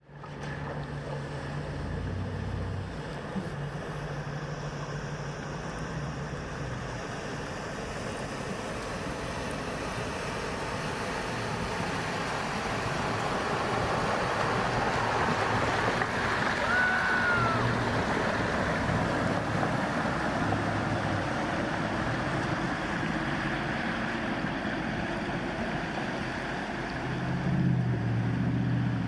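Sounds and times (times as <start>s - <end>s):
car engine running low: 0.0s - 29.0s
river water rushing and splashing: 0.0s - 29.0s.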